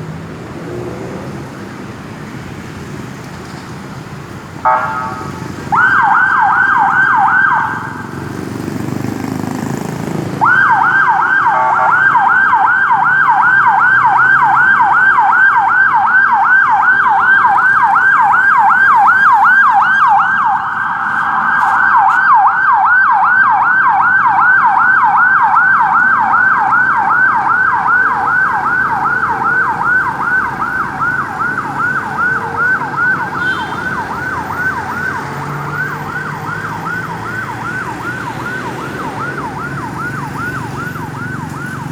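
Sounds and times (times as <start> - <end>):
ambulance siren yelping: 4.6 - 8.4, 10.2 - 41.9.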